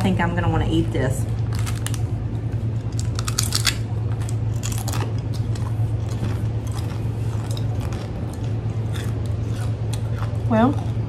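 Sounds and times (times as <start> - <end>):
steady low hum: 0.0 - 11.0
crunching pastry snack being chewed: 1.3 - 11.0.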